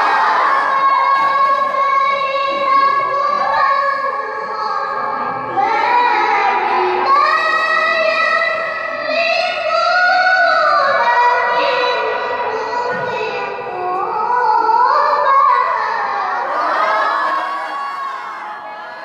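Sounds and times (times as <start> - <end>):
girl chanting into microphone: 0.0 - 19.0.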